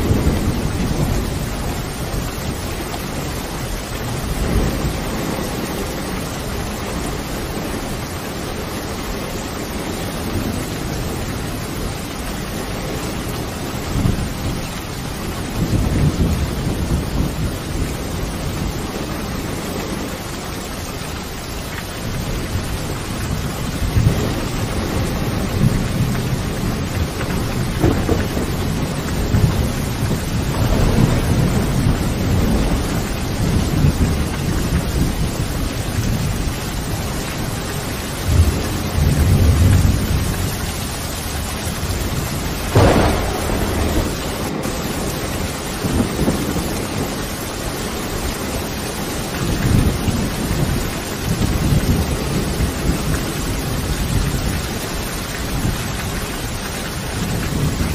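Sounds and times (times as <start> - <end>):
low rolling thunder: 0.0 - 57.9
steady rain: 0.0 - 57.9.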